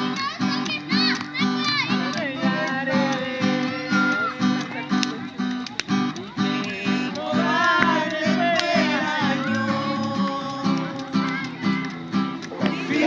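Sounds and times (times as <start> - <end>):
acoustic guitar strumming: 0.0 - 13.0
faint voices singing: 1.4 - 13.0.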